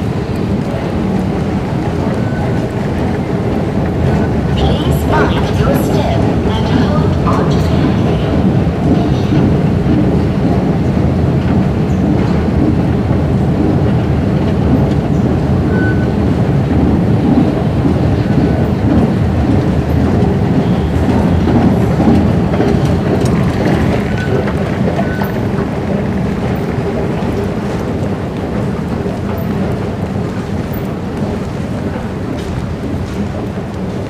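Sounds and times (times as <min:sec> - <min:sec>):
low rumble in metro station: 0:00.0 - 0:34.0.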